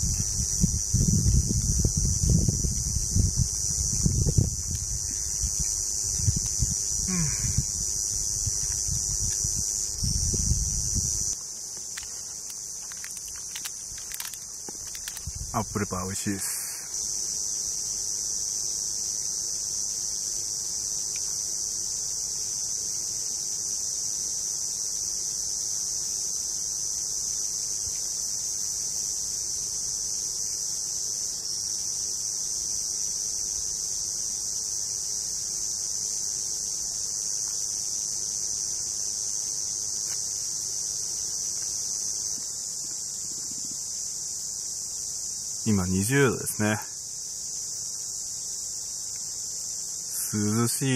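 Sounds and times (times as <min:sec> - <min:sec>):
insects chorus shrilling: 0:00.0 - 0:50.9.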